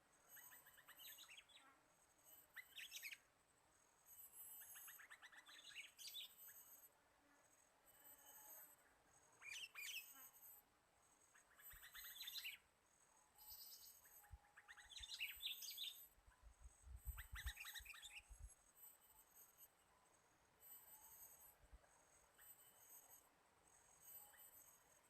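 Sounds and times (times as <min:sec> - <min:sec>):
faint bird chirping: 0:00.0 - 0:25.0.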